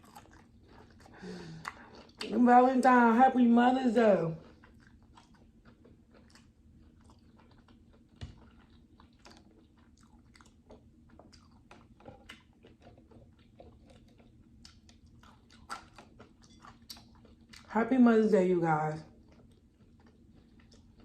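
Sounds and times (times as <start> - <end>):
person chewing: 0.0 - 2.3, 4.4 - 17.7, 19.1 - 21.0
faint steady hum: 0.0 - 21.0.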